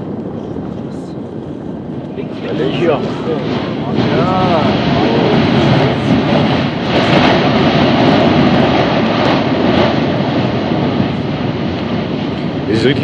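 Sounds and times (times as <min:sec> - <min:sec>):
volcano gas jetting roar: 0:00.0 - 0:13.0.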